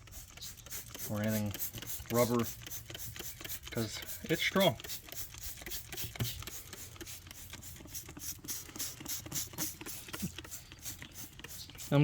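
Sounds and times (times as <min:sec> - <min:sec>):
spray bottle hissing squirts: 0:00.0 - 0:12.0.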